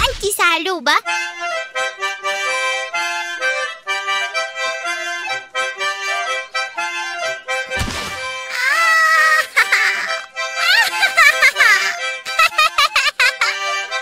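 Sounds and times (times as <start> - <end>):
accordion tune: 0.4 - 14.0.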